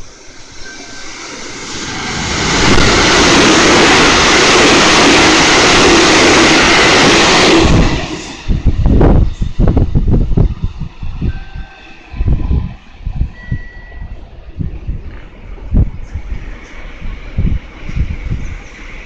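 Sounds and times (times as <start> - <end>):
electric train passing at speed: 0.0 - 19.0
wind gusts on microphone: 0.0 - 19.0.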